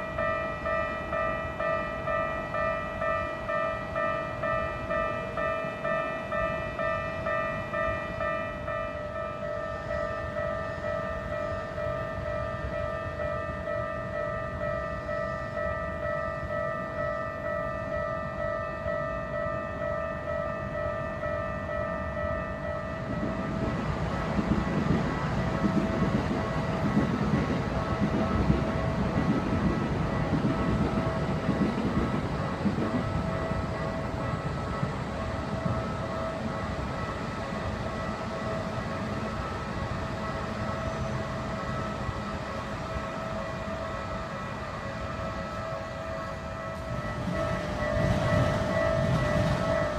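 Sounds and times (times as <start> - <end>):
level crossing warning bell: 0.0 - 49.9.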